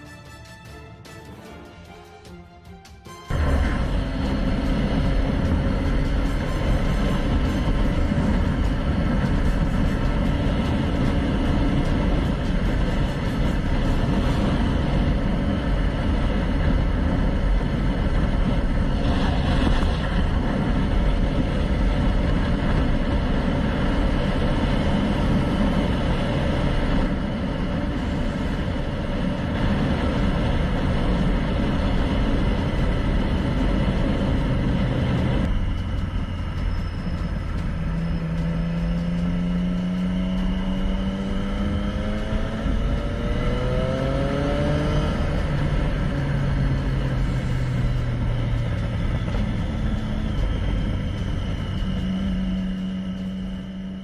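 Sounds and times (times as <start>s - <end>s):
motorcycle engine accelerating: 3.3s - 54.0s
wind and road noise: 3.3s - 54.0s.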